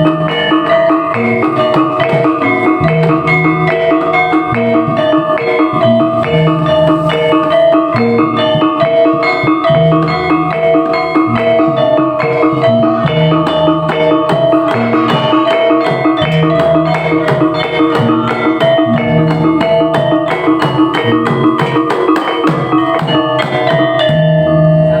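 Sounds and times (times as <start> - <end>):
tuned metal percussion ringing: 0.0 - 25.0.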